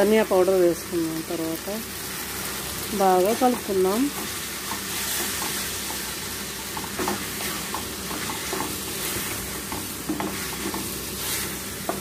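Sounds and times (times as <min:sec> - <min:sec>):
meat sizzling in a pot: 0:00.0 - 0:12.0.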